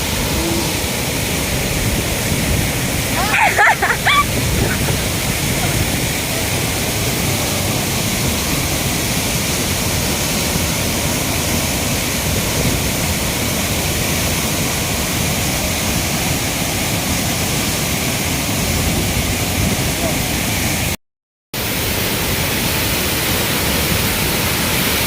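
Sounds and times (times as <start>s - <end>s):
waterfall roaring: 0.0s - 20.9s, 21.6s - 25.0s.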